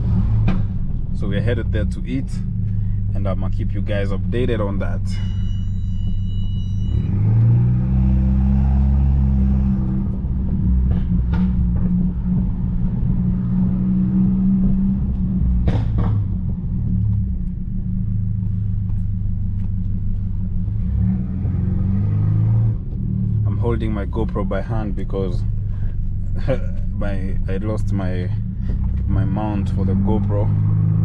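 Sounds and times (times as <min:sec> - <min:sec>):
car engine and road drone: 0:00.0 - 0:31.0.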